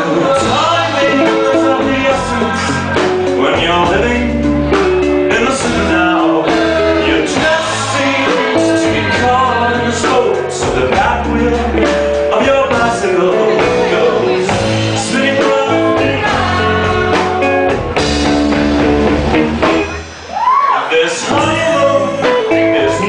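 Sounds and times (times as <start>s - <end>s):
man singing lead: 0.0s - 18.0s, 19.6s - 23.0s
live band music: 0.0s - 23.0s.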